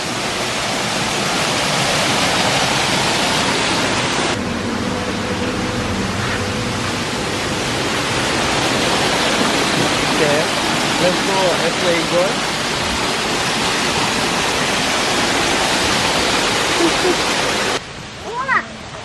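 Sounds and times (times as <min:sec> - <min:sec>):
waterfall pouring into pond: 0:00.0 - 0:04.4, 0:06.8 - 0:18.6.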